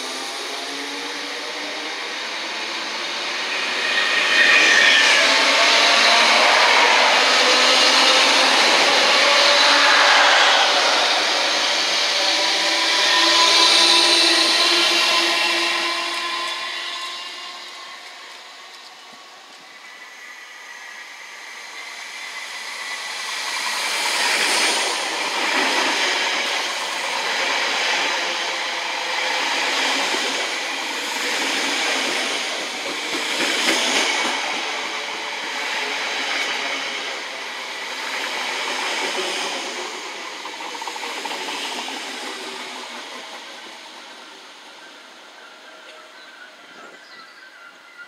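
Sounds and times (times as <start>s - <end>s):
train wheels rumbling on rails: 0.0s - 47.1s.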